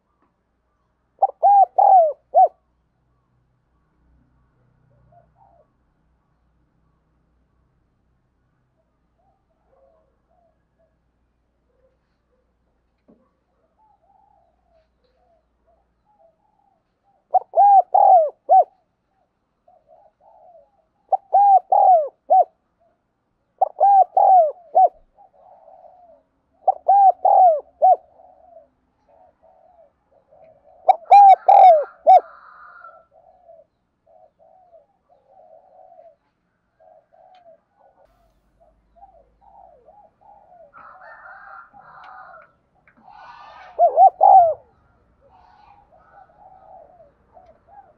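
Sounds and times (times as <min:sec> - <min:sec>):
dove cooing: 0:01.2 - 0:02.7, 0:04.9 - 0:05.8, 0:09.2 - 0:12.5, 0:13.2 - 0:23.0, 0:23.6 - 0:47.9.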